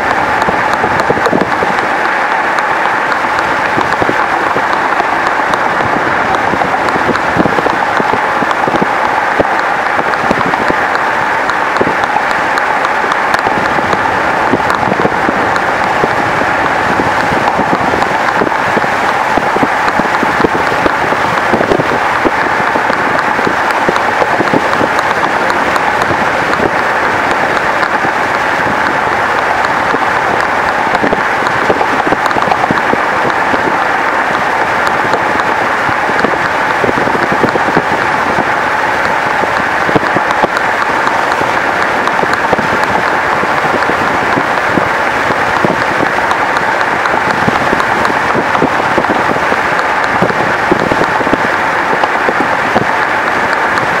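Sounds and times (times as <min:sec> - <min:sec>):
car wind and road noise: 0:00.0 - 0:54.0.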